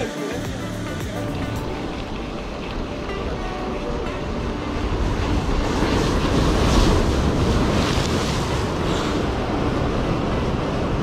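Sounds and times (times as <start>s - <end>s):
surf breaking over rocks: 0.0s - 11.0s
wind buffeting microphone: 1.6s - 11.0s.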